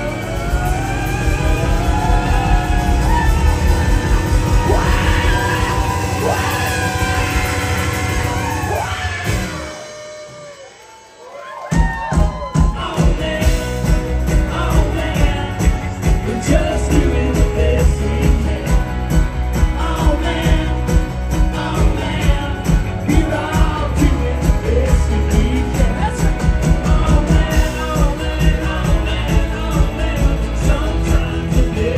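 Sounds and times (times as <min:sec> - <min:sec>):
people singing: 0:00.0 - 0:09.7, 0:12.5 - 0:31.9
live rock band playing: 0:00.0 - 0:31.9.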